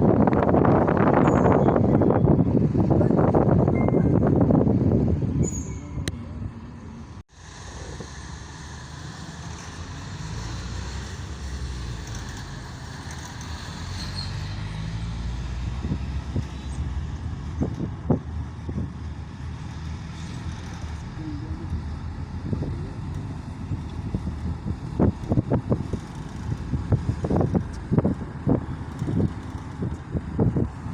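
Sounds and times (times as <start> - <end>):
engine and tyres rumble: 0.0 - 30.9.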